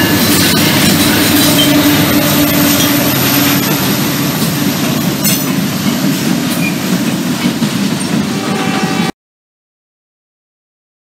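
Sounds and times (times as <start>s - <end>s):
diesel locomotive engines running: 0.0s - 9.1s
steel wheels rolling on rail: 0.0s - 9.1s.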